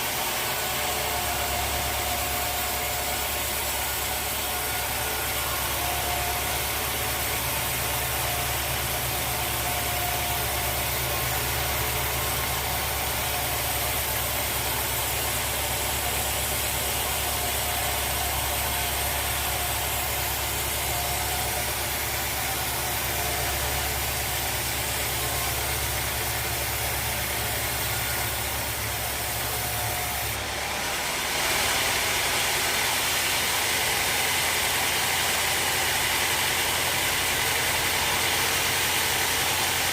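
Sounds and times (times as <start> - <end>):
high-pitched machine whine: 0.0 - 39.9
sawmill machinery running: 0.0 - 39.9.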